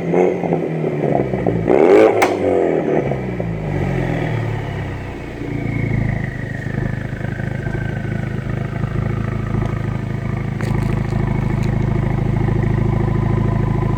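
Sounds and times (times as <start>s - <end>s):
car engine idling: 2.2s - 13.9s.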